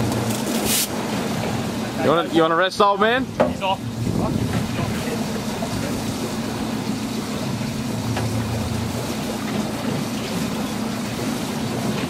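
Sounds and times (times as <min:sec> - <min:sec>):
motorboat engine humming: 0:00.0 - 0:12.0
wind and water hissing: 0:00.0 - 0:12.0.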